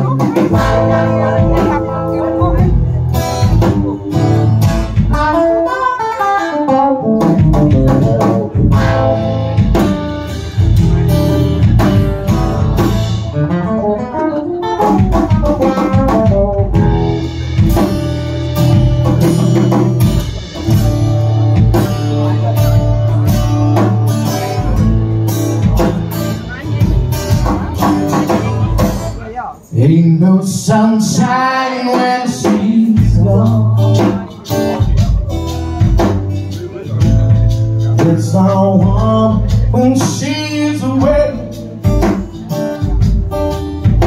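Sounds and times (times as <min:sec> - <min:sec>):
drum kit: 0:00.0 - 0:29.6, 0:30.5 - 0:44.0.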